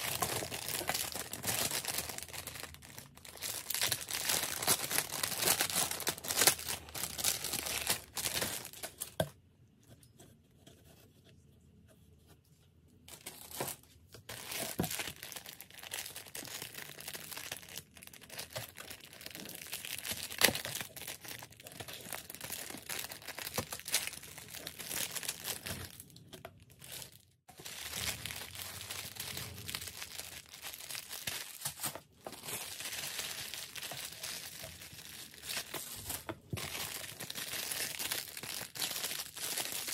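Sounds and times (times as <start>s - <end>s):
plastic packaging crinkling and tearing: 0.0s - 9.2s, 13.1s - 39.9s.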